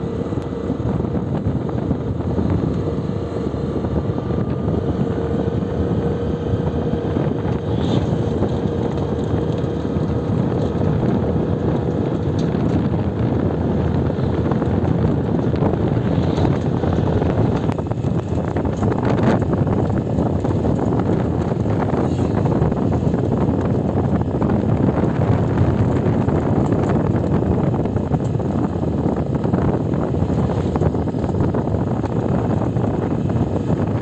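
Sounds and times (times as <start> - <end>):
vehicle engine and road noise: 0.0 - 34.0
wind buffeting microphone: 0.0 - 34.0.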